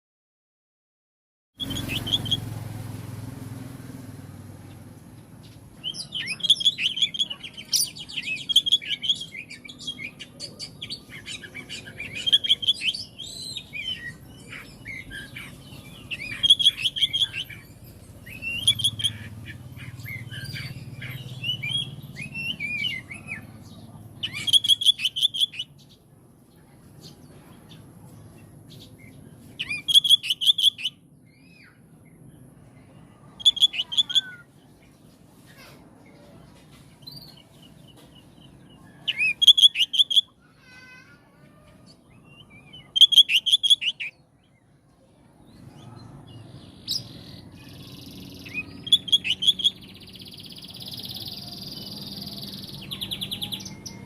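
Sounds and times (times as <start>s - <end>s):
magpie-robin singing: 1.6s - 2.6s, 4.8s - 54.0s.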